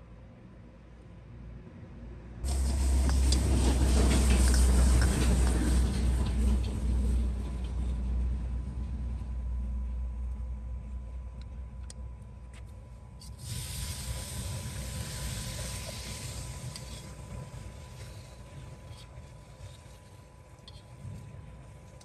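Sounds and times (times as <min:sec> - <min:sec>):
low rumble: 0:02.4 - 0:22.0.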